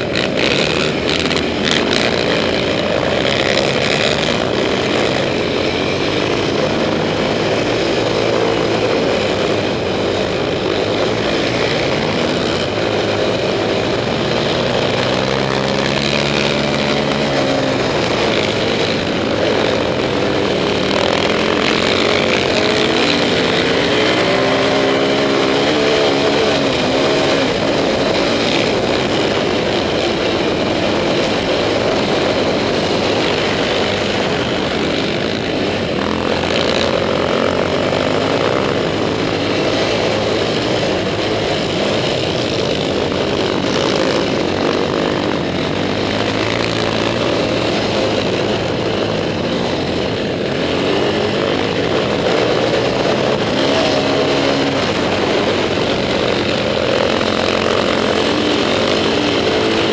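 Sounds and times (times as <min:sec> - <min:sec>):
quad engine under load: 0:00.0 - 0:59.9.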